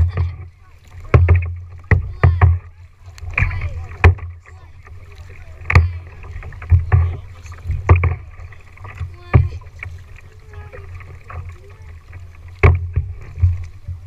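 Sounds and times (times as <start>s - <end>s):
paddle knocks on kayak: 0.0s - 14.0s
paddle splashing into water: 0.0s - 14.0s.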